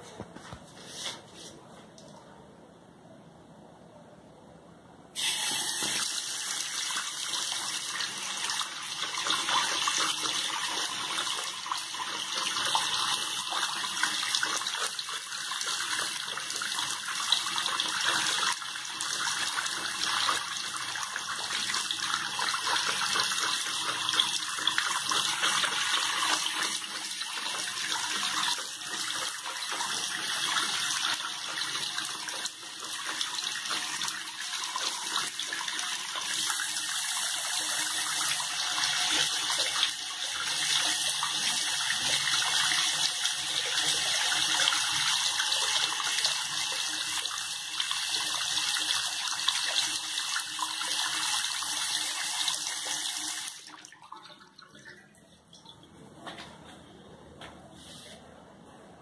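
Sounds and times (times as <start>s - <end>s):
tap water running into basin: 5.2s - 55.9s.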